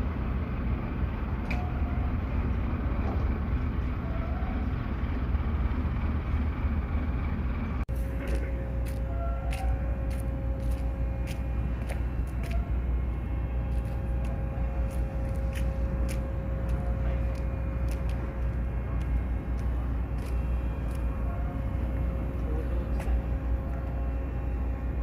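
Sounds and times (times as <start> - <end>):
constant hum: 0.0 - 25.0
ferry engines droning: 0.0 - 25.0.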